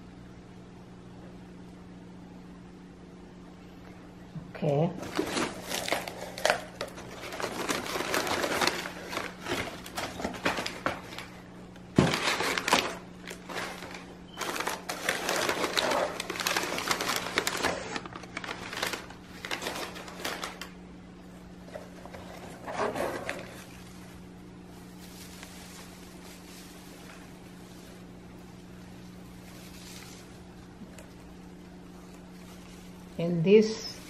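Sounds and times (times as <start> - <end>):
newspaper rustling and crackling: 5.0 - 20.8, 21.4 - 34.0
paper crunch: 5.0 - 20.8, 21.6 - 34.0
shredded paper rustling: 5.0 - 20.8, 21.4 - 34.0.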